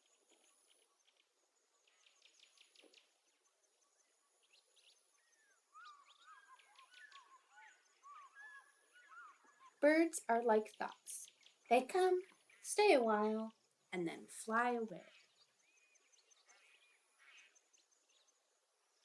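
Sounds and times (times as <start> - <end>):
birdsong chirps and warbling: 0.0 - 9.8, 10.5 - 19.0.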